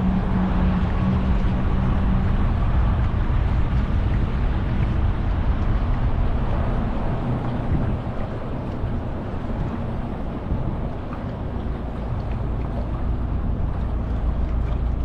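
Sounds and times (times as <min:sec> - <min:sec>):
motorboat engine rumble: 0:00.0 - 0:15.0
wind on microphone: 0:00.0 - 0:15.0.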